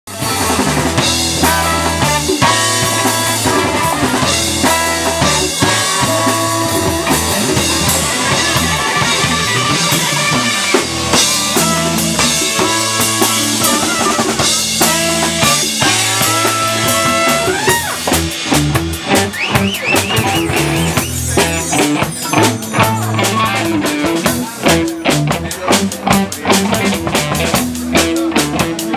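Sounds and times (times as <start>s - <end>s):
trumpet and saxophone riffs: 0.1s - 24.8s
congas: 0.1s - 25.7s
drum kit: 0.1s - 28.9s
electric bass: 0.1s - 28.9s
electric guitar: 0.1s - 28.9s.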